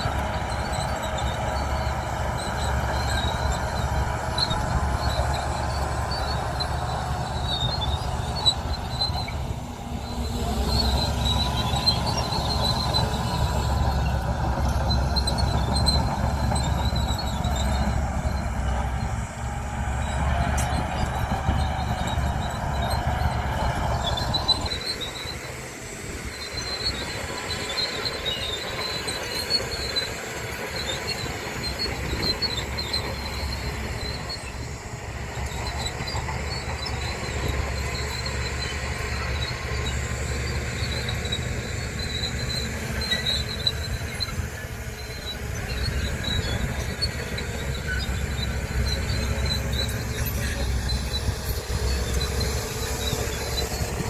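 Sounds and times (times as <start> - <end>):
diesel engine running under load: 0.0 - 54.0
steel tracks squealing: 0.0 - 54.0.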